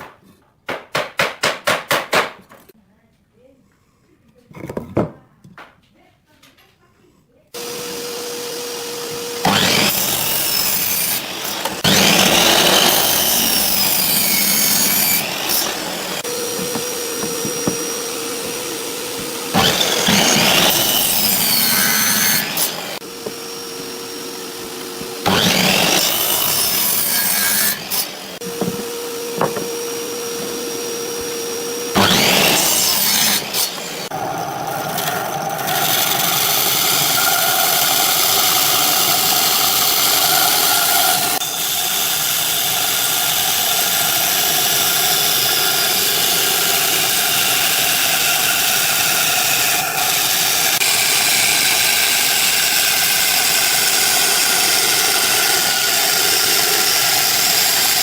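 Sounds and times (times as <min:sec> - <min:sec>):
power tool cutting wood: 0:07.6 - 0:58.0.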